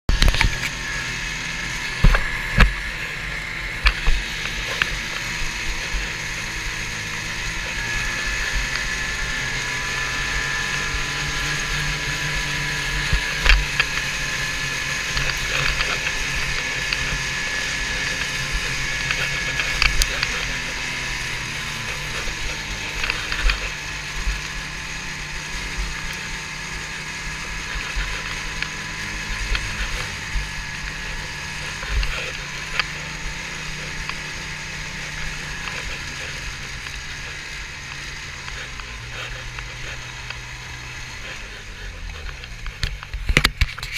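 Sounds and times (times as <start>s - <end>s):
snowmobile engine running: 0.1s - 43.9s.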